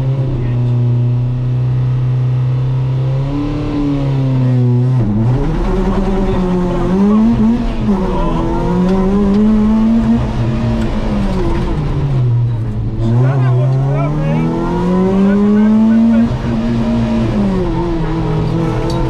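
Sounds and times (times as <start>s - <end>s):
car engine revving and accelerating: 0.0s - 19.0s.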